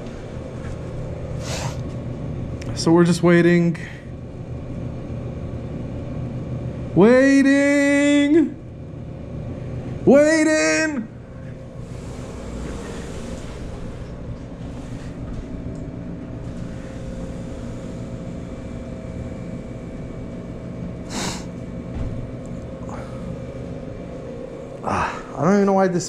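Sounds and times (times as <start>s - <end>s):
low mechanical hum and rumble: 0.0s - 26.0s.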